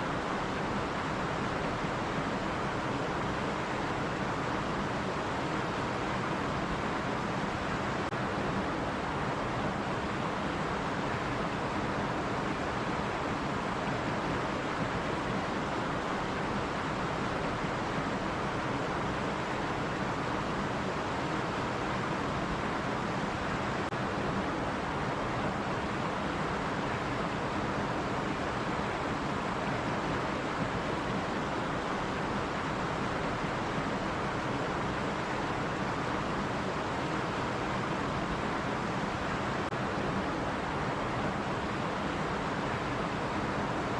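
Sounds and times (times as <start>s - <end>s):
stream rushing: 0.0s - 43.9s.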